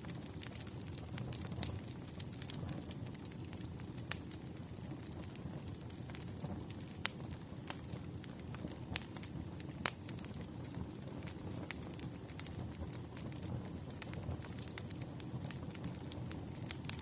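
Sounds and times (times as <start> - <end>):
low rumble of burning logs: 0.0 - 17.0
wood fire crackling: 0.0 - 17.0.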